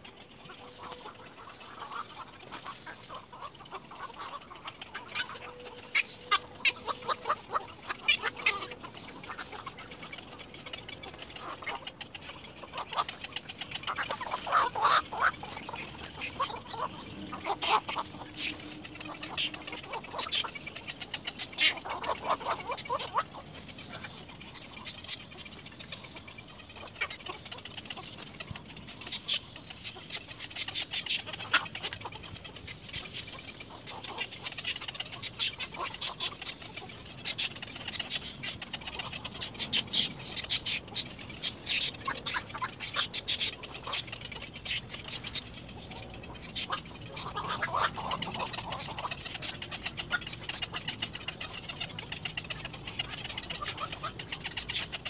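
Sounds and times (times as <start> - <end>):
chicks clicking chatter: 0.0 - 55.0
harsh rasping chick call: 0.6 - 10.1, 11.4 - 55.0.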